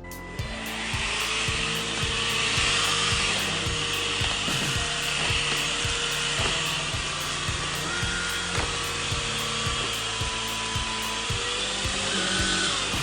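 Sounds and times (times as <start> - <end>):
vacuum motor whine: 0.3 - 13.0.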